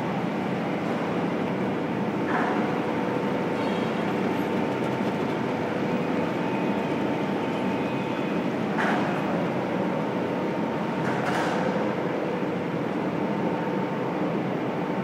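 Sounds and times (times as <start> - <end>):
production line machinery din: 0.0 - 12.8
faint constant hum: 0.0 - 15.0.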